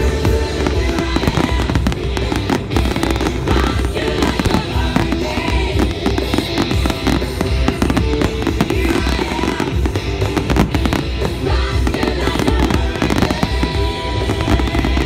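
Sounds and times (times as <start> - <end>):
fireworks bursting and crackling: 0.0 - 15.0
music with low beat: 0.0 - 15.0.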